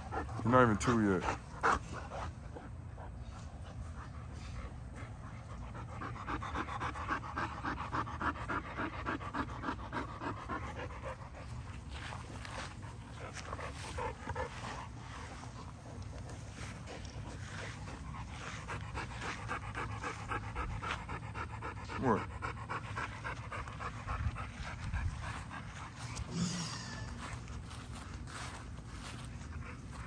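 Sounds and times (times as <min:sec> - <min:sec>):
dog panting: 0:00.0 - 0:30.0.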